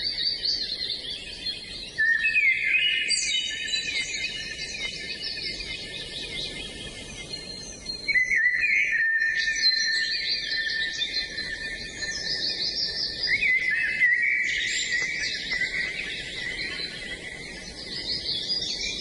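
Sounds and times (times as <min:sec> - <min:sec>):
songbirds singing and chirping: 0:00.0 - 0:19.0.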